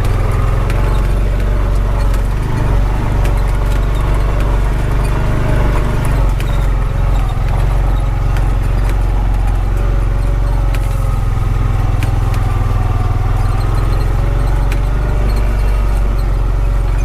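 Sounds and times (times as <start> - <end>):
engine running while driving: 0.0 - 17.0
sharp clicks and rattles: 0.0 - 17.0.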